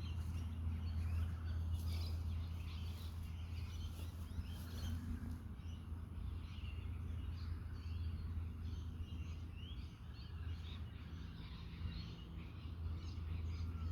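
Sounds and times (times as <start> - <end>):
small birds chirping: 0.0 - 13.9
wind rumble on microphone: 0.0 - 13.9.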